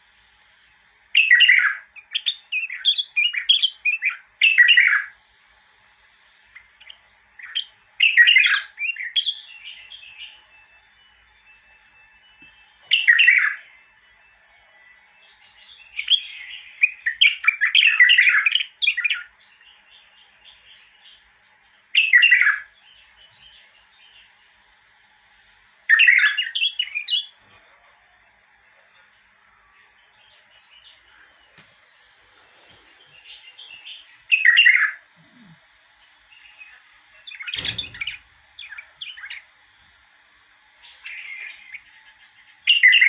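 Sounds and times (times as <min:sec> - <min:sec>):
bird singing chirping phrases: 0:01.2 - 0:05.2, 0:06.6 - 0:24.9, 0:25.8 - 0:27.5, 0:28.2 - 0:39.6, 0:40.6 - 0:43.0.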